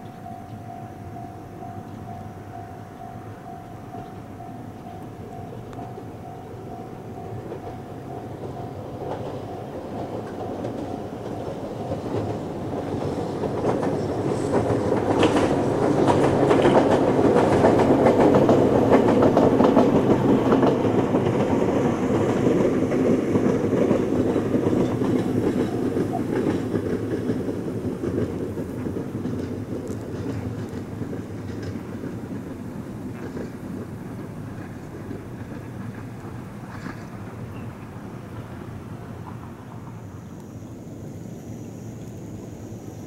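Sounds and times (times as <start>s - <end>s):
electric train passing: 0.0s - 43.0s
wheels clacking over rail joints: 1.5s - 40.6s.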